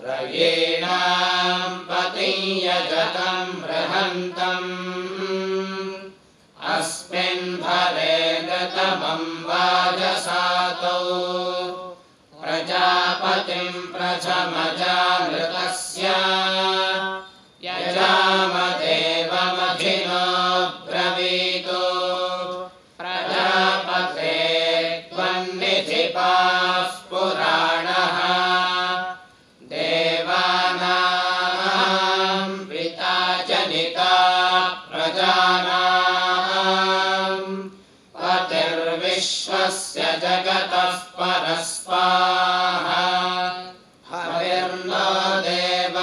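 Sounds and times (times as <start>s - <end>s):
men chanting in unison: 0.0s - 46.0s.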